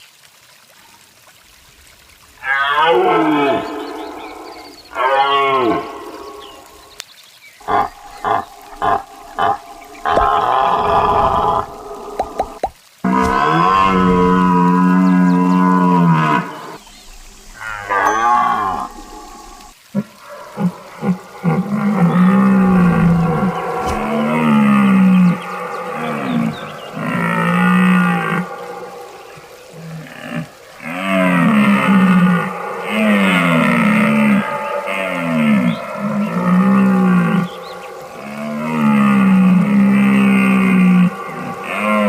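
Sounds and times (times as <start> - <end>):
deer calling: 7.6 - 16.8, 17.5 - 42.0.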